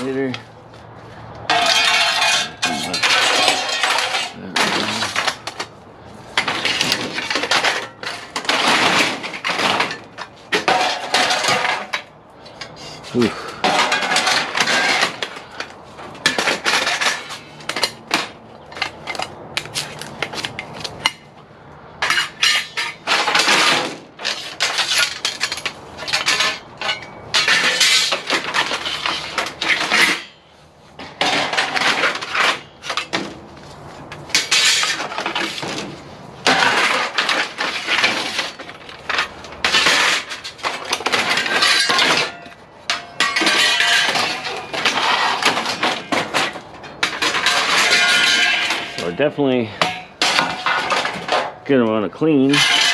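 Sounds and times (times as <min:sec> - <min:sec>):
aluminum lengths clattering together: 0:01.5 - 0:05.8, 0:06.4 - 0:21.3, 0:22.0 - 0:33.4, 0:34.1 - 0:51.6, 0:52.4 - 0:52.9.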